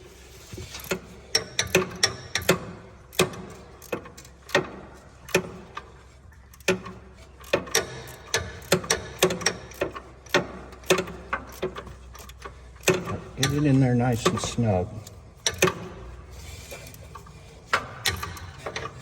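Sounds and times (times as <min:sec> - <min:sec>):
ratchet clicking: 0:00.6 - 0:05.9, 0:06.5 - 0:19.0.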